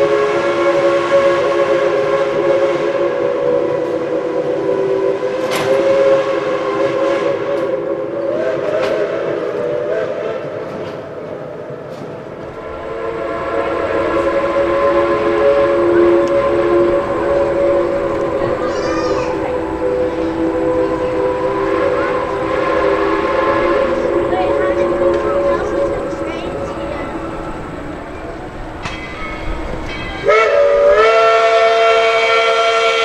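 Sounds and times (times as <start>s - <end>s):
steam locomotive chime whistle: 0.0s - 10.7s, 12.5s - 33.0s.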